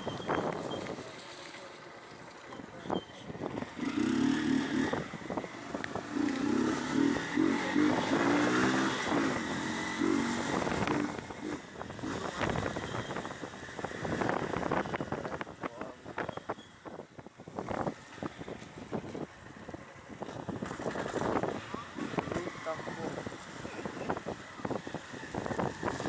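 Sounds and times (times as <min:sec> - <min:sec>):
wind noise on microphone: 0:00.0 - 0:01.2, 0:02.5 - 0:26.0
motorcycle engine accelerating: 0:03.4 - 0:26.0.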